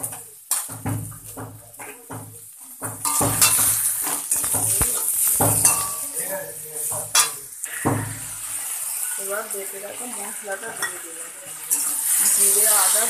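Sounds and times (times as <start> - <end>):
frying sizzle: 0.0 - 13.0
spatula scraping metal pan: 0.0 - 13.0.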